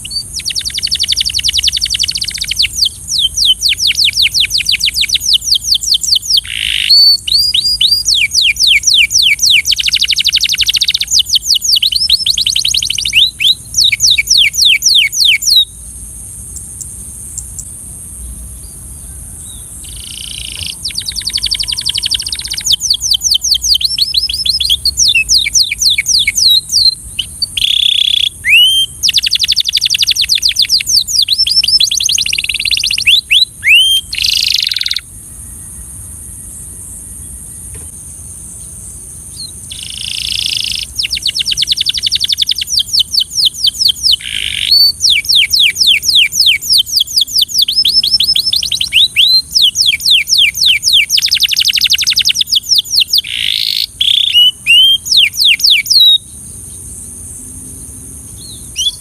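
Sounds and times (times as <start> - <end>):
canary singing trills: 0.0 - 36.0, 38.6 - 59.0.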